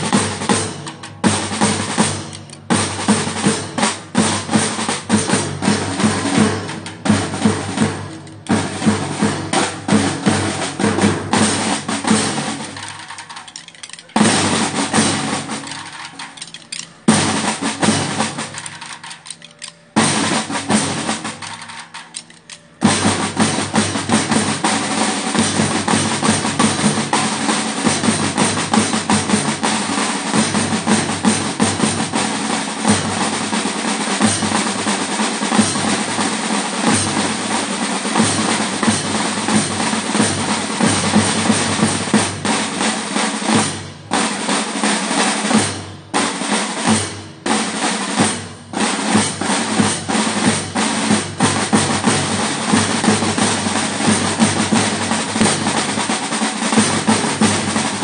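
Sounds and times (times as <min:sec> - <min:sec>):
marching drum band: 0:00.0 - 0:58.0.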